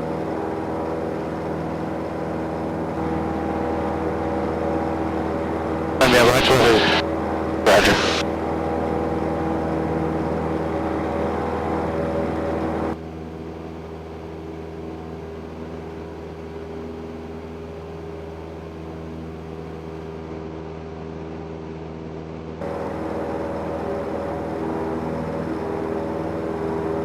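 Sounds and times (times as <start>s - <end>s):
aircraft engine running: 0.0s - 20.3s, 22.6s - 27.0s.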